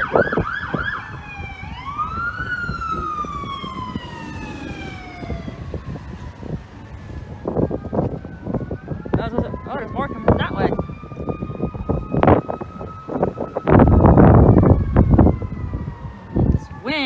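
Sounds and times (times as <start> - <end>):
ambulance siren wailing: 0.0 - 17.0.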